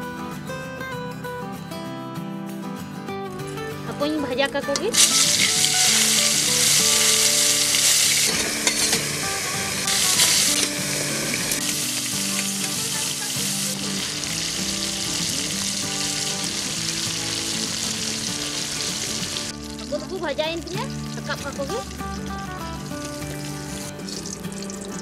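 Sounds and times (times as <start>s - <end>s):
fish sizzling in hot oil: 4.9s - 25.0s.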